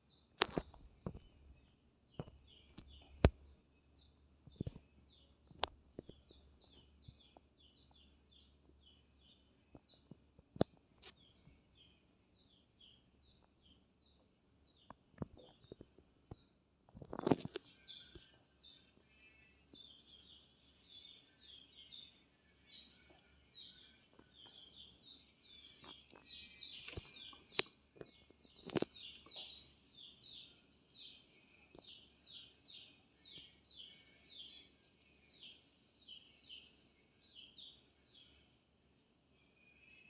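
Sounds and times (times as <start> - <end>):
small bird peeping: 0.0 - 38.6.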